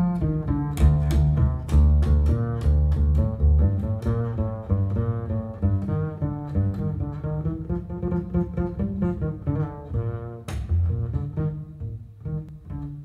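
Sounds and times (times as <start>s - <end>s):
double bass playing low notes: 0.0s - 13.0s.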